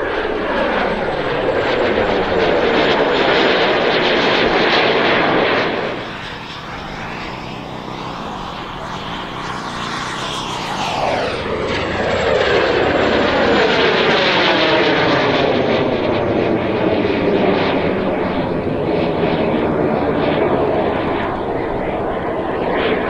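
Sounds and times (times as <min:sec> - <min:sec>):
model jet engine whine: 0:00.0 - 0:23.0.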